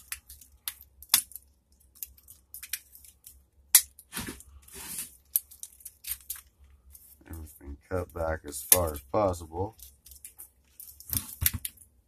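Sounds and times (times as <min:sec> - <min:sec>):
wires rustling: 0:00.0 - 0:12.0.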